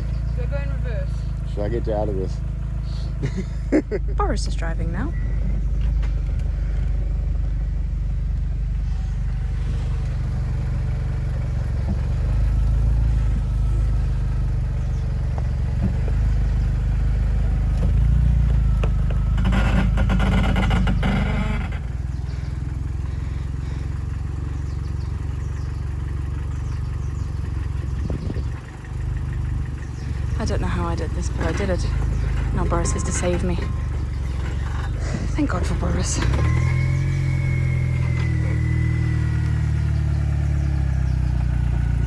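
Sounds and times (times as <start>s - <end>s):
rattling scraping clatter: 0.0s - 25.6s, 26.2s - 41.1s
car engine under load: 0.0s - 42.0s.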